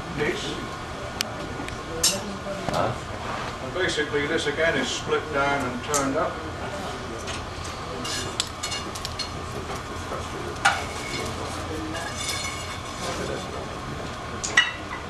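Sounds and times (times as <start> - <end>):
forge hum and hiss: 0.0 - 15.0.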